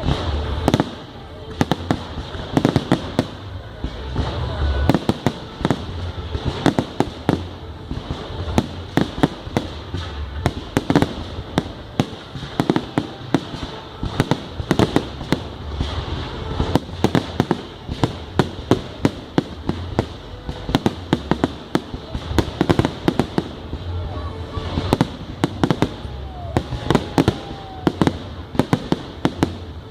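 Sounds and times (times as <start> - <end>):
fireworks cracking and banging: 0.0 - 29.9.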